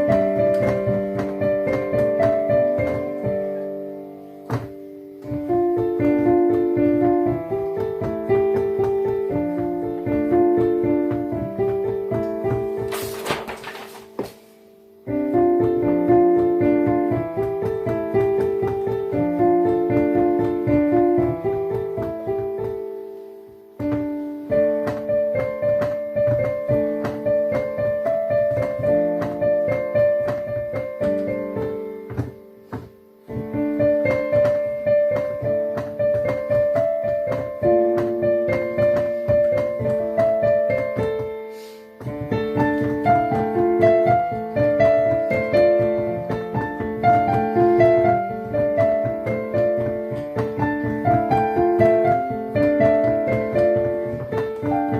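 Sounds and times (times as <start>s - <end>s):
piano melody over chords: 0.0s - 54.9s.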